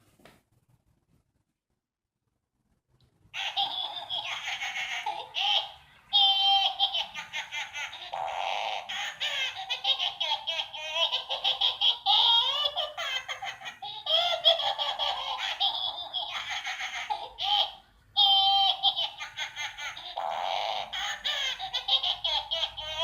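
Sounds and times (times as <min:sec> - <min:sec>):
toy giggling through small speaker: 0:03.4 - 0:23.0.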